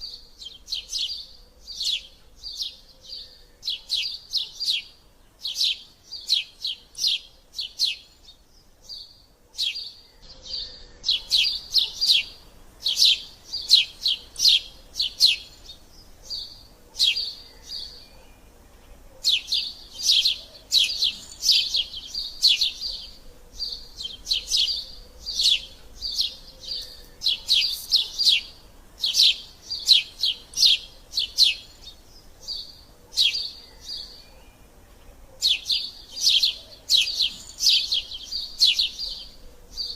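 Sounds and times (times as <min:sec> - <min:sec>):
sparrow chirping: 0:00.0 - 0:39.9.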